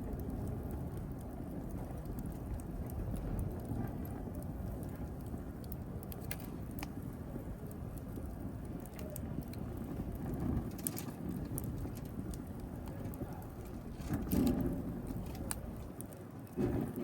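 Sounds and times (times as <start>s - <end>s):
burning wood crackling and popping: 0.0s - 17.0s
wood fire flame rushing: 0.0s - 17.0s.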